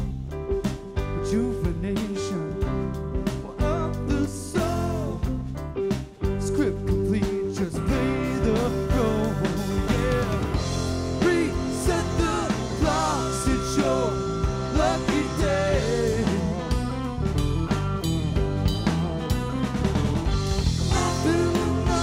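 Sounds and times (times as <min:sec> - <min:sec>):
drum kit: 0:00.0 - 0:22.0
electric bass: 0:00.0 - 0:22.0
electric guitar: 0:00.0 - 0:22.0
bending guitar lead line: 0:02.5 - 0:22.0.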